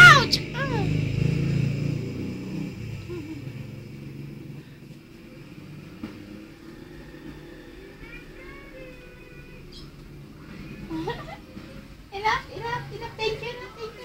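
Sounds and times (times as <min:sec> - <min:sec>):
low engine-like rumble: 0:00.0 - 0:14.0.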